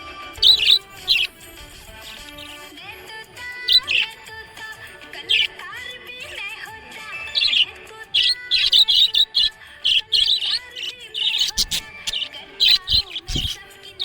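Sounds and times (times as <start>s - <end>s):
background music: 0.0s - 14.0s
budgerigar chirping: 0.4s - 2.7s, 3.5s - 14.0s.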